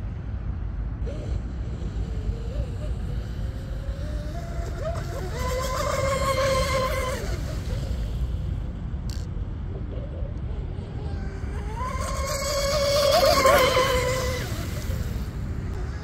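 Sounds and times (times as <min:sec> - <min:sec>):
wind rumble on microphone: 0:00.0 - 0:16.0
rc speedboat motors whining: 0:00.9 - 0:16.0.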